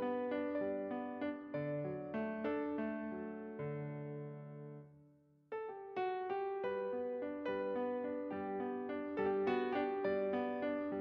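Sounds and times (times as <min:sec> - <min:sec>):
piano music: 0:00.0 - 0:04.9, 0:05.5 - 0:11.0.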